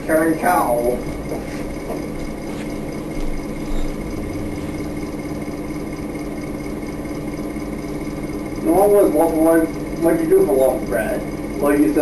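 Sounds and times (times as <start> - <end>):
faint high whine: 0.0 - 12.0
machine hum: 0.0 - 12.0.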